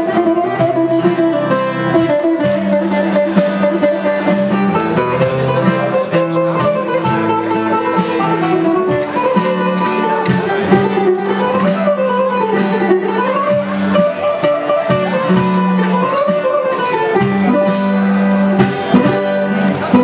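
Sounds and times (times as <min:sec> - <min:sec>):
bouzouki melody: 0:00.0 - 0:20.0
strummed acoustic guitar: 0:00.0 - 0:20.0.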